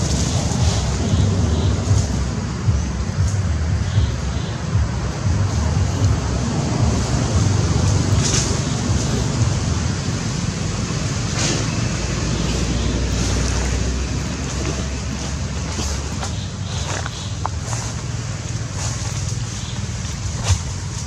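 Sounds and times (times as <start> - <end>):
leaves and twigs rustling: 0.0 - 2.6, 4.5 - 21.0.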